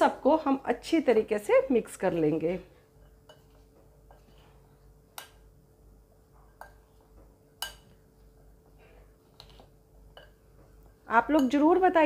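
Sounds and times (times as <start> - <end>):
faint steady hum: 0.0 - 12.0
hands mixing food in bowl: 1.2 - 12.0.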